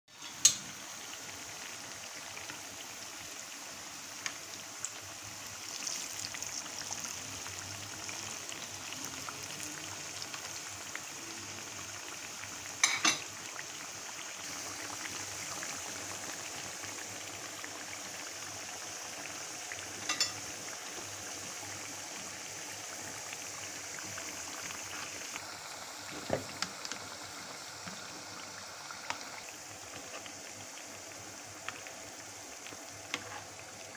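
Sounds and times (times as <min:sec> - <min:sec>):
food sizzling in hot oil: 0:00.1 - 0:33.9.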